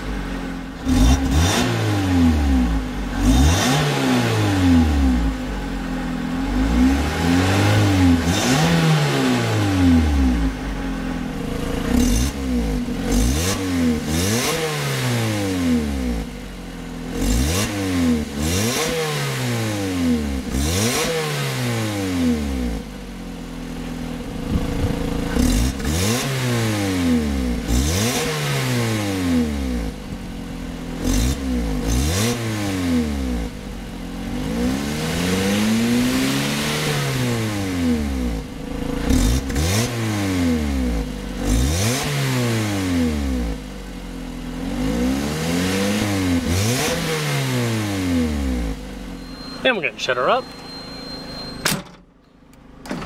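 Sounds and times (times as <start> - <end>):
car engine revving: 0.0 - 51.5.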